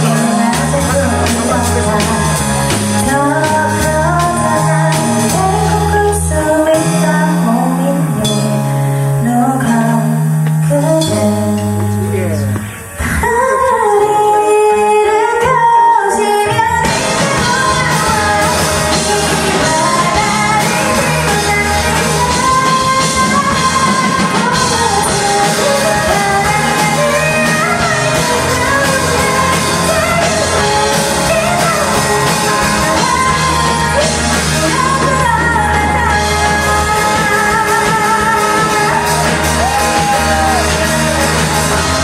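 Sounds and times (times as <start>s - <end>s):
lead singer singing: 0.0s - 42.0s
rock band playing live: 0.0s - 42.0s.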